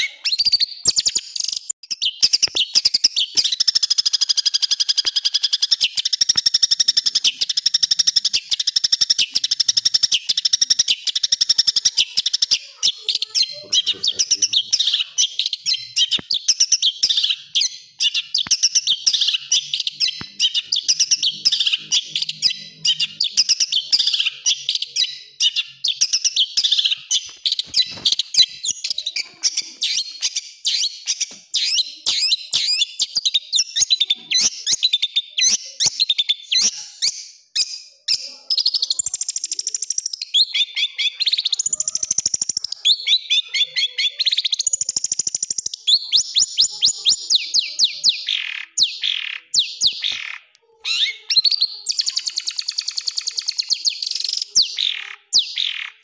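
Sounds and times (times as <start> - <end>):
bird singing harsh chattering song: 0.0 - 56.0.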